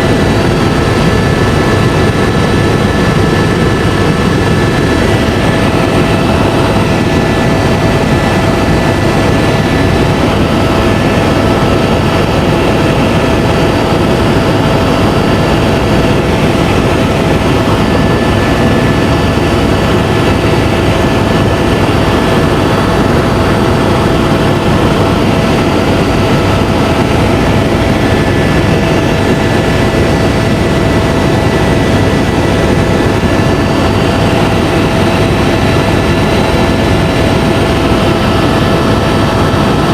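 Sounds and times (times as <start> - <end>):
helicopter rotor and turbine rumble: 0.0 - 39.9.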